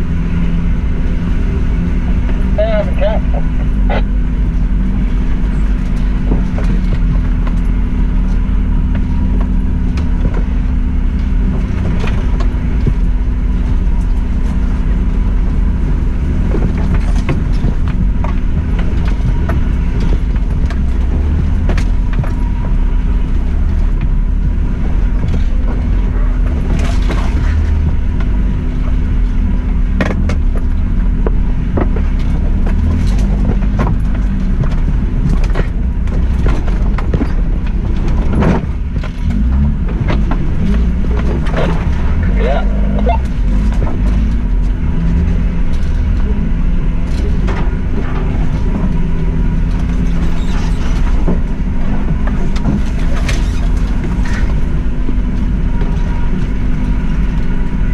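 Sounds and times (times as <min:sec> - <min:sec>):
car engine low drone: 0:00.0 - 0:57.9
vehicle knocking and rattling: 0:00.0 - 0:57.9.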